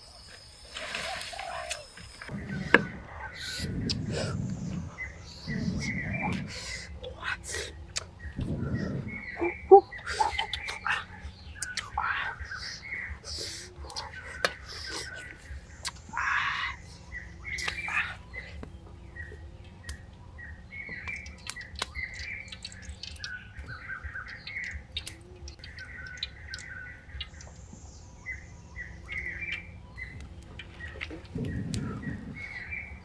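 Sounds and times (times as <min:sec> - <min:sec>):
birds chirping and squawking: 0:01.0 - 0:33.0.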